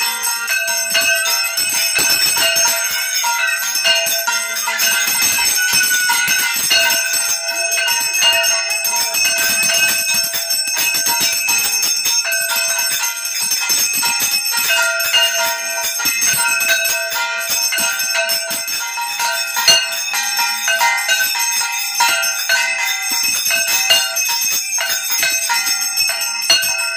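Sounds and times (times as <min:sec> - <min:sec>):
hand bell ringing rapidly: 0:00.0 - 0:26.9.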